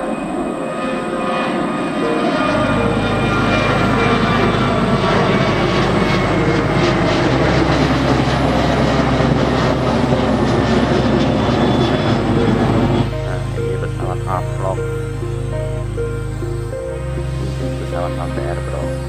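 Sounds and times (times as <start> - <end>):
background music: 0.0 - 19.0
jet engine rumble: 0.0 - 19.0.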